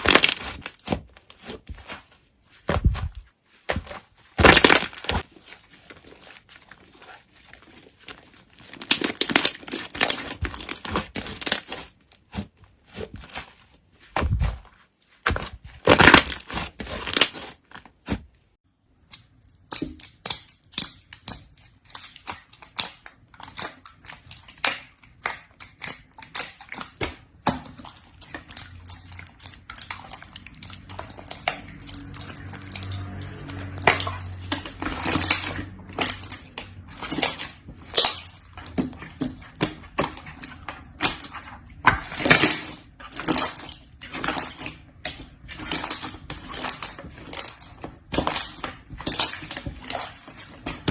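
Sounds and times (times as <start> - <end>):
slime squished by hand: 0.0 - 50.9.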